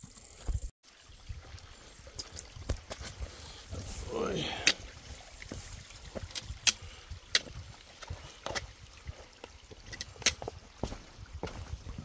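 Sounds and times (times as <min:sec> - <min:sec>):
water trickling over stone: 0:00.4 - 0:12.0
footsteps on wet rock: 0:02.0 - 0:12.0.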